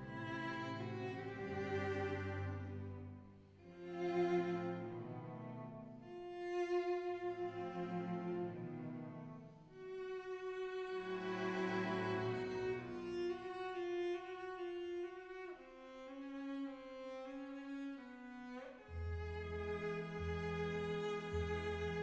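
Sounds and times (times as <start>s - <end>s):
bowed strings holding long notes: 0.0s - 9.4s, 10.2s - 15.6s, 18.2s - 22.0s.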